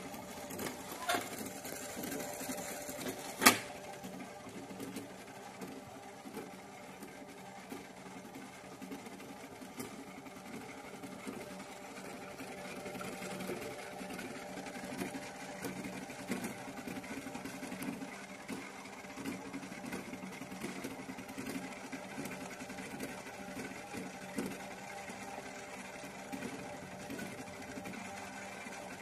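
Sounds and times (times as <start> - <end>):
toy washing machine motor humming: 0.0 - 29.0.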